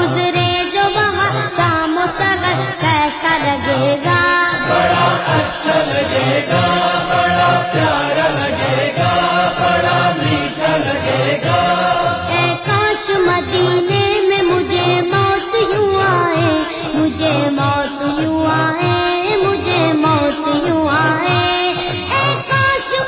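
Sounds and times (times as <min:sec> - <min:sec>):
voices chanting devotional song: 0:00.0 - 0:23.0
steady regular beat: 0:00.1 - 0:22.8.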